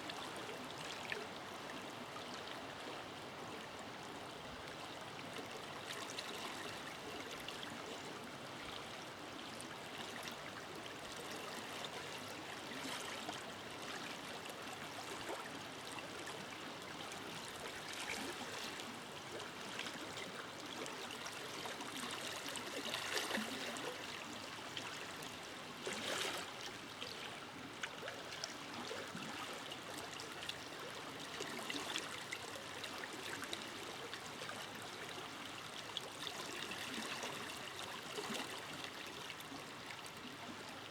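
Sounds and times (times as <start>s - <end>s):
water splashes and gurgles: 5.4s - 40.9s.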